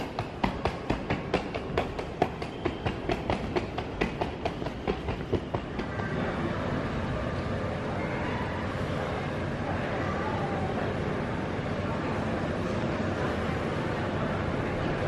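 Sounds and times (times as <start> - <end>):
hum of large hall: 0.0 - 15.0.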